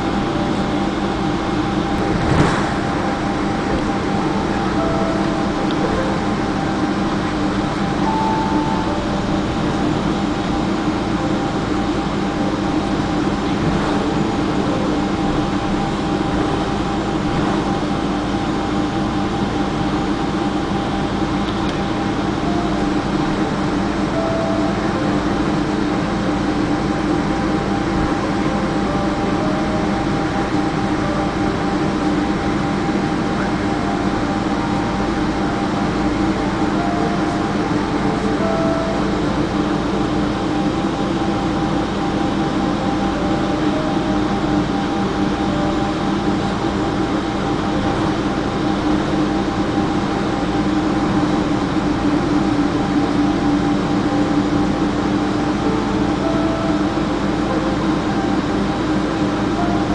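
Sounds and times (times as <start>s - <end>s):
air conditioning hiss: 0.0s - 59.9s
constant hum: 0.0s - 59.9s
jet engines at low power: 0.0s - 59.9s
steady tones: 0.0s - 59.9s.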